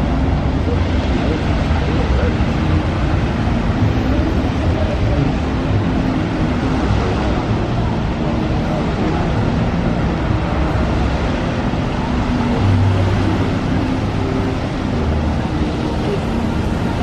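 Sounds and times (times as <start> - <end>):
fountain water jets rushing: 0.0 - 17.0.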